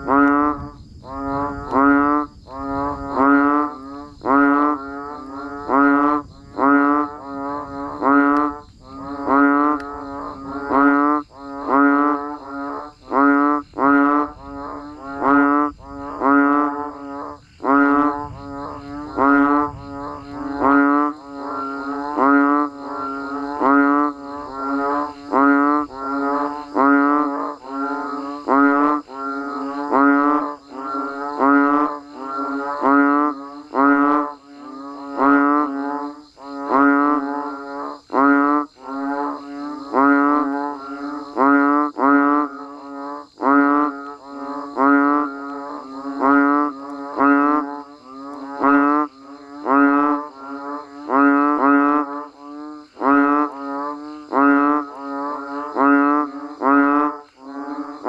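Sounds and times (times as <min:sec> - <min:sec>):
chorus of frogs calling: 0:00.0 - 0:58.0.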